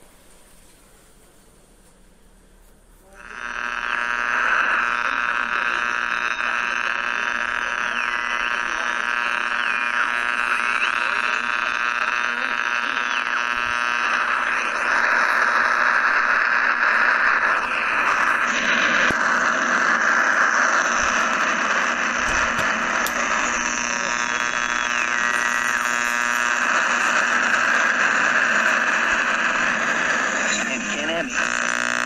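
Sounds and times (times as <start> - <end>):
radio static hiss: 0.0 - 32.0
buzz of steady tones: 3.1 - 32.0.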